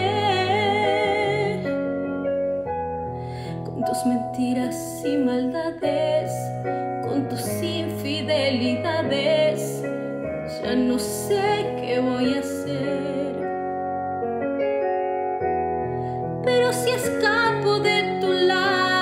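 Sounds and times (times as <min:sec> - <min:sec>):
woman singing ballad: 0:00.0 - 0:02.3, 0:03.3 - 0:13.7, 0:16.4 - 0:19.0
piano chords: 0:00.0 - 0:19.0.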